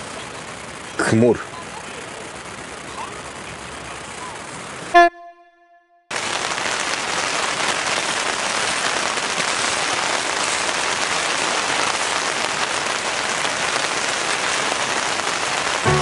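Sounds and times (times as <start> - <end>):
heavy rain on a tent: 0.0 - 5.0, 6.1 - 16.0.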